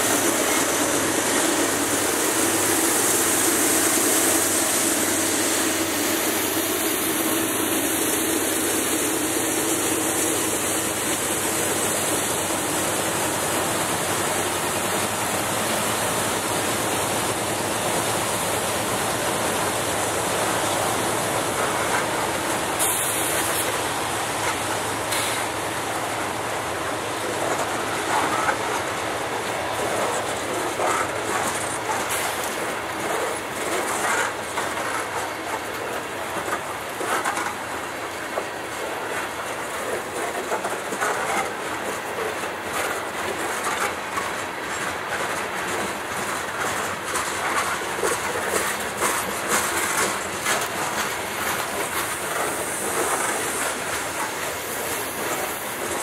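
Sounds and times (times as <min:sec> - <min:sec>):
freight train rolling past: 0:00.0 - 0:56.0
wheels clattering over rail joints: 0:00.0 - 0:56.0.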